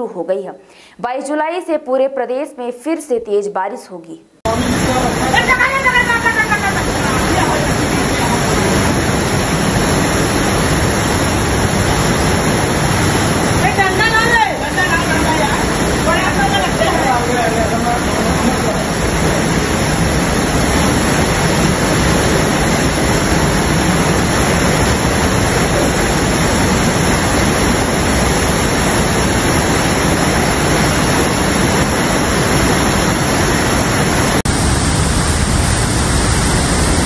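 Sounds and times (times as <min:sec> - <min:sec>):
floodwater rushing: 0:04.5 - 0:37.0.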